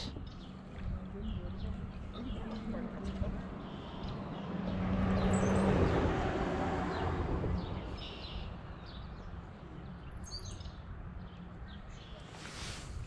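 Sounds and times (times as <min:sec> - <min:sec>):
small birds chirping: 0:00.0 - 0:06.1, 0:06.9 - 0:13.0.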